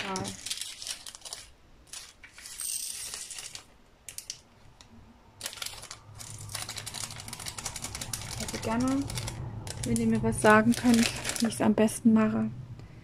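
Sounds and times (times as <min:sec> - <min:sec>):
plastic beads rattling in bag: 0:00.0 - 0:04.4, 0:05.4 - 0:11.6.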